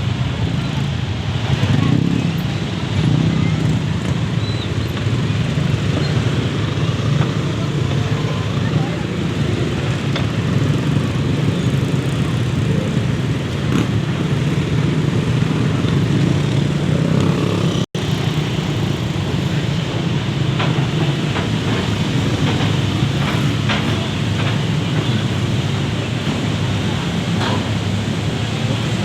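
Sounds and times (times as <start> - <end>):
diesel engines rumbling: 0.0 - 29.0.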